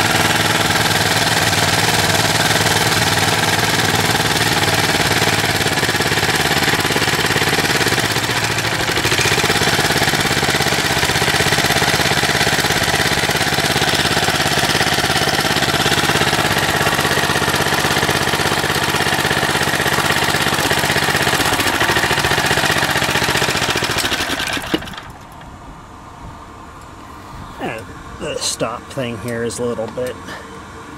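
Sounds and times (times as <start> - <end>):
small engine running: 0.0 - 25.4.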